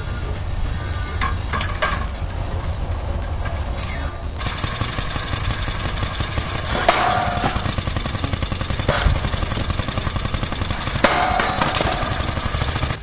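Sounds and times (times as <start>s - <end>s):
heavy machinery clattering: 0.0s - 13.0s.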